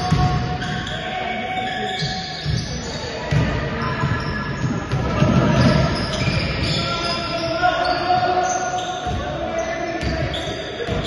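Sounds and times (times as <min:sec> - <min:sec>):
indistinct voices: 0:00.0 - 0:11.0.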